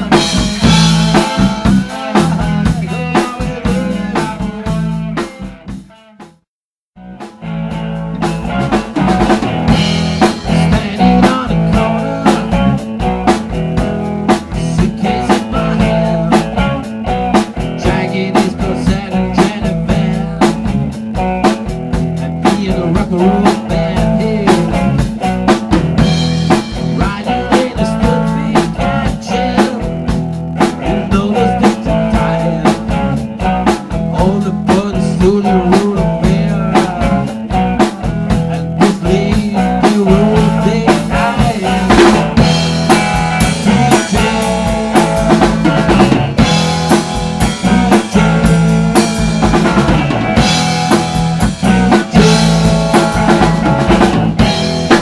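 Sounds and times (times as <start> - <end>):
electric guitar: 0.0 - 6.4, 7.0 - 55.0
drum kit: 0.0 - 55.0.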